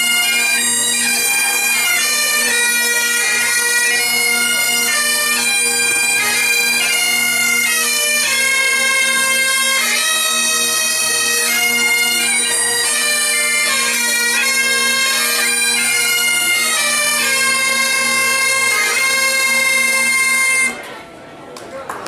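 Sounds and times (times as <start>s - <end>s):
bagpipes playing: 0.0s - 20.8s.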